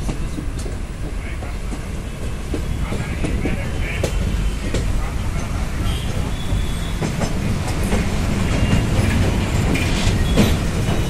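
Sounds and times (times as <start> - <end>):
train rumbling: 0.0 - 11.0
wheels clacking over rail joints: 0.0 - 11.0.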